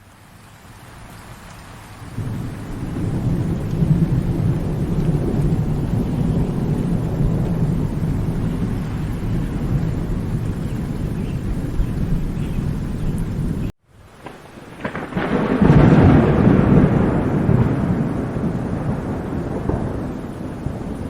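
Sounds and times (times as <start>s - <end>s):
rain hiss: 0.0s - 21.0s
rumble of thunder: 2.1s - 21.0s.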